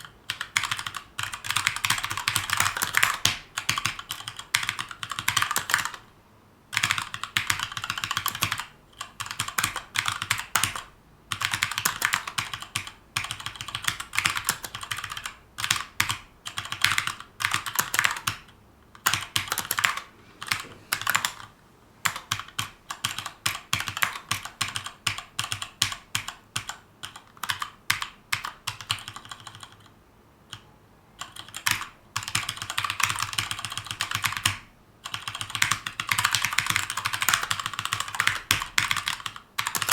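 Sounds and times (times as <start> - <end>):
mechanical keyboard typing: 0.0 - 6.1, 6.7 - 29.9, 30.5 - 39.9.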